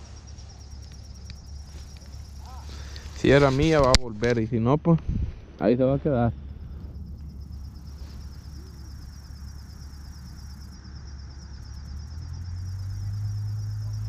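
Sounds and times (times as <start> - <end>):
faint high insect trill: 0.0 - 14.0
low steady rumble: 0.0 - 14.0.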